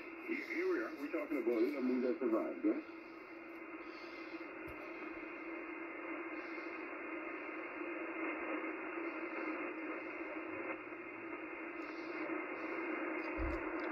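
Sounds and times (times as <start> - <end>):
low hum: 0.0 - 13.9
radio receiver static hiss: 0.0 - 13.9.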